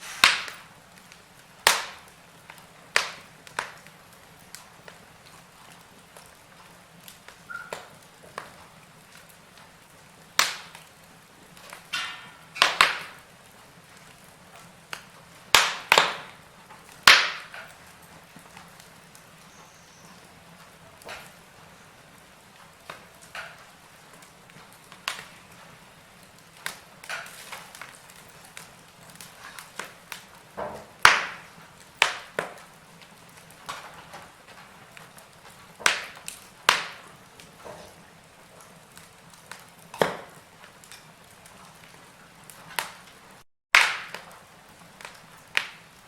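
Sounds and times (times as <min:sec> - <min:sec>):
fire low hiss: 0:00.0 - 0:46.0
wood fire crackling and popping: 0:00.0 - 0:46.0.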